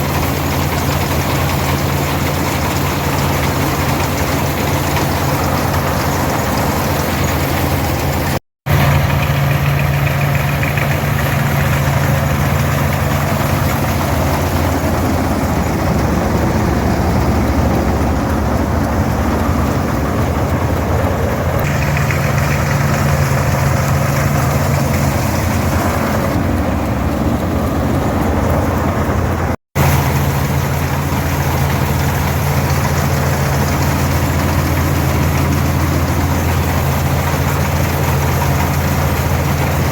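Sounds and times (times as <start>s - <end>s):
combine harvester running: 0.0s - 39.9s
diesel tractor engine running: 0.0s - 39.9s.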